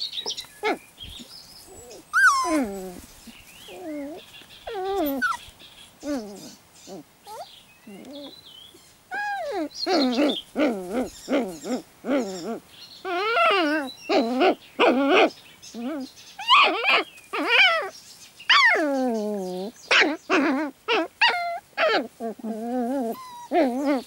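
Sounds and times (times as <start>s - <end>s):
puppies yipping and whining: 0.2s - 17.9s, 18.5s - 24.0s.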